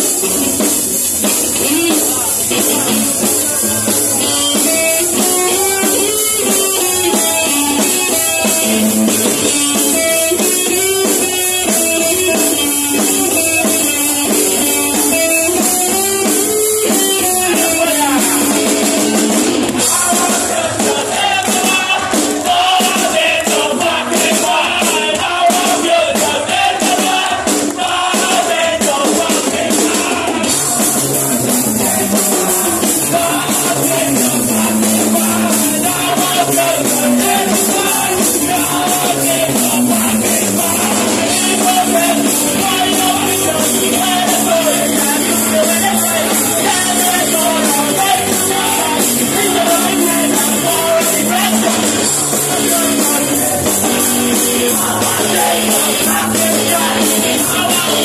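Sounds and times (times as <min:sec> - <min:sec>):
punk rock band playing live: 0:00.0 - 0:58.0.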